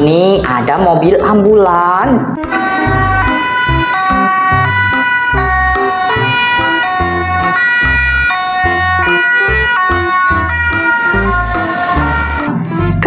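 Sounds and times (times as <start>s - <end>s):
synth melody over bass line: 0.0s - 13.0s.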